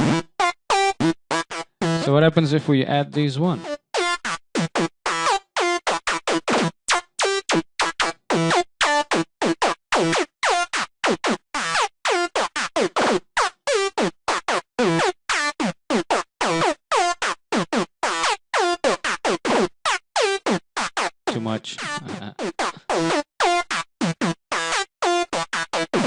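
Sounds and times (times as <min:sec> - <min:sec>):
synth lead staccato riff: 0:00.0 - 0:02.5, 0:03.5 - 0:13.2, 0:16.2 - 0:26.0.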